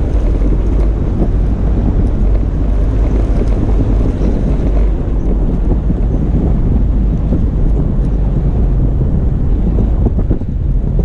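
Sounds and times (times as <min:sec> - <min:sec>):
engine and tyres rumbling: 0:00.0 - 0:11.0
wind buffeting microphone: 0:00.0 - 0:11.0.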